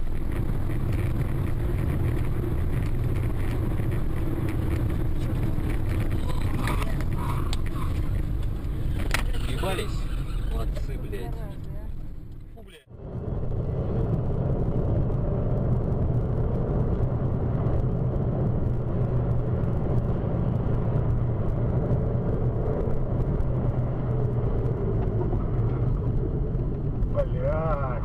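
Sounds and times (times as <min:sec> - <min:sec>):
car engine hum inside car: 0:00.0 - 0:28.0
road rumble: 0:00.0 - 0:28.0.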